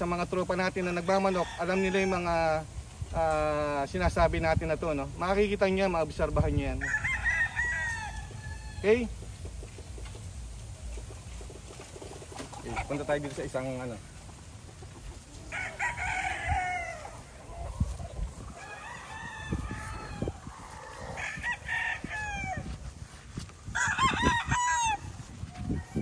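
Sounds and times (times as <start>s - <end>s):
roosters crowing: 0.0s - 4.1s, 4.8s - 26.0s.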